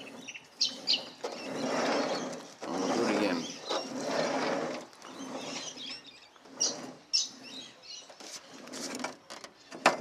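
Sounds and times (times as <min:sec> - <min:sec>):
short high squeaks: 0:00.0 - 0:09.0
sliding door rolling rumble: 0:00.0 - 0:10.0.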